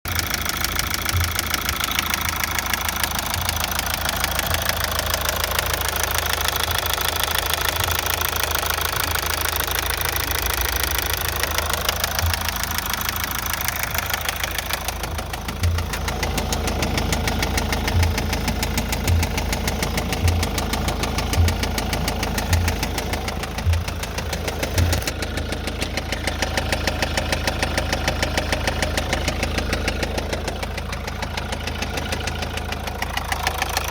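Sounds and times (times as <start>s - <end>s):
diesel engine running: 0.0s - 33.9s
low engine knock: 0.0s - 33.9s.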